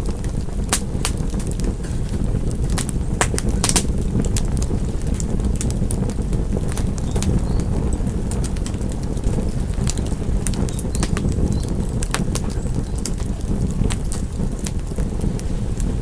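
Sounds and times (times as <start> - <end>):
rush of burning flames: 0.0 - 16.0
wood fire crackling: 0.0 - 16.0.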